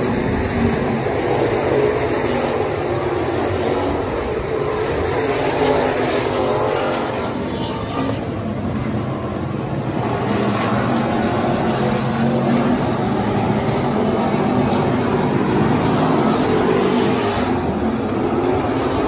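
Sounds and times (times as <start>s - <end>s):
race car engines: 0.0s - 19.0s.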